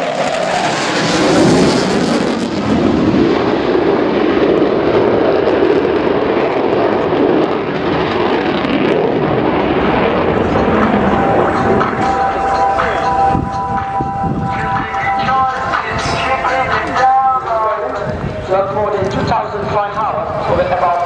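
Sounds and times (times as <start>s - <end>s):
jet roar: 0.0s - 20.0s.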